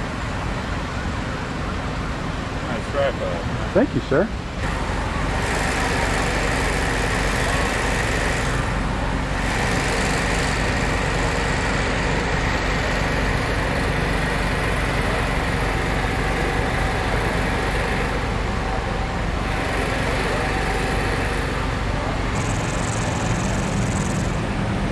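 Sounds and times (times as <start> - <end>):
generator humming: 3.8 - 24.9.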